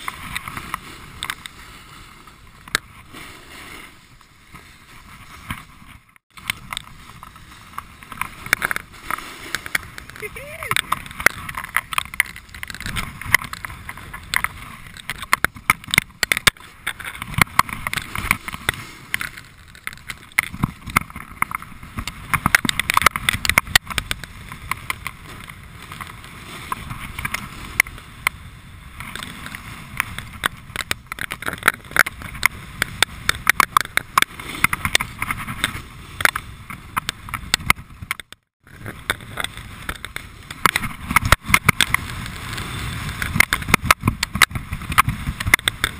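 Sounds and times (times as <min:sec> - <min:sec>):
snowboard scraping snow: 0:00.0 - 0:38.0, 0:38.7 - 0:45.9
wind on microphone: 0:00.0 - 0:45.9.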